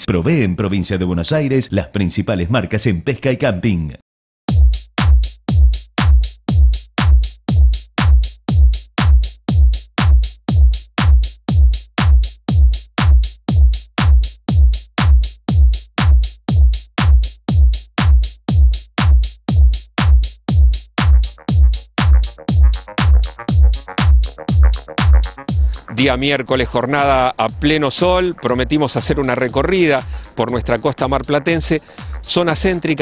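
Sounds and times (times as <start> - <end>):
drum machine kick: 4.5 - 33.0
electronic music: 4.6 - 33.0.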